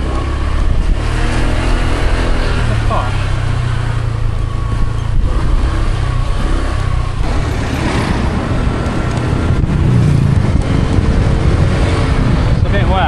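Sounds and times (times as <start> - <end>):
scooter engine running: 0.0 - 12.6
wind rushing over microphone: 0.0 - 13.0.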